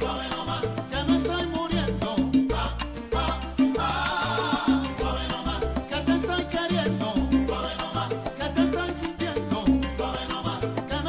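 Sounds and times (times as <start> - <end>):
salsa music: 0.0 - 11.0.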